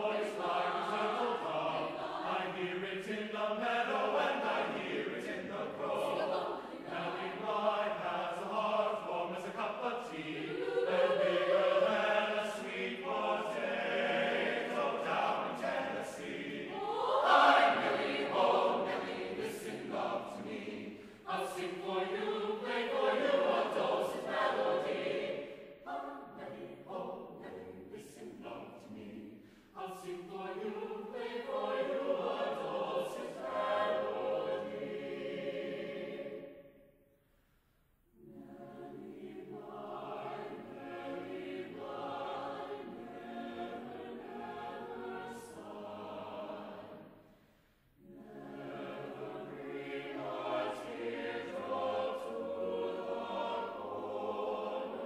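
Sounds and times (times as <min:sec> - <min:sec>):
mixed choir singing in harmony: 0:00.0 - 0:37.0, 0:38.1 - 0:55.0.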